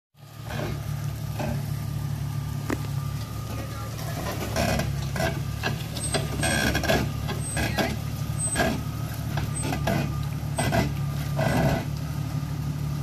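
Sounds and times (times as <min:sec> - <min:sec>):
car engine running low: 0:00.2 - 0:13.0.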